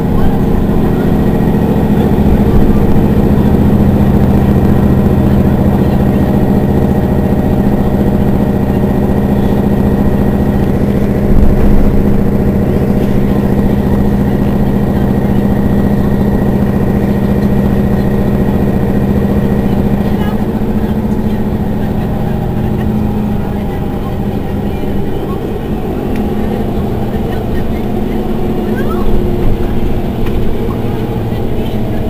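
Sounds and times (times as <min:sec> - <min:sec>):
bus diesel engine idling: 0:00.0 - 0:32.0.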